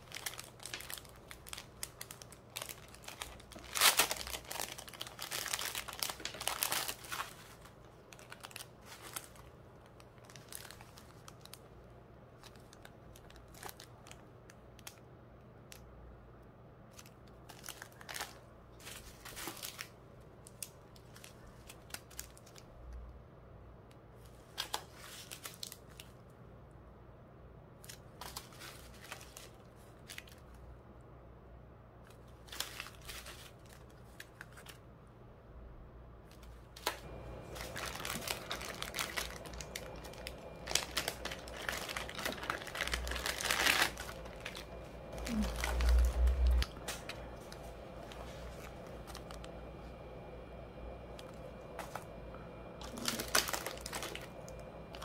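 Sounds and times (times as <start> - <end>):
plastic packaging crinkling: 0.0 - 11.7, 12.4 - 15.0, 16.9 - 22.7, 24.4 - 26.2, 27.8 - 30.6, 32.1 - 34.8, 36.3 - 55.0.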